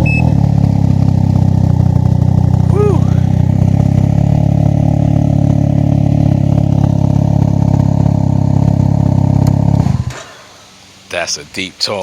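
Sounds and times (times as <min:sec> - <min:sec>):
deep engine exhaust idling: 0:00.0 - 0:10.9.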